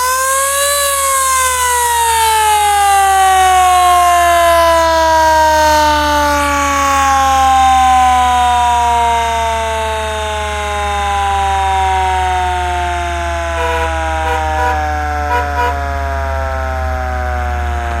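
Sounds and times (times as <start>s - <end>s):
fire truck siren winding down: 0.0s - 18.0s.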